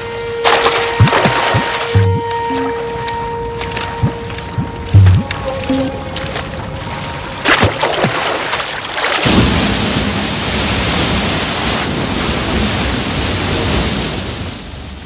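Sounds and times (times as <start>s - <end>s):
water splashing: 0.4s - 14.2s
rushing river: 0.4s - 14.5s.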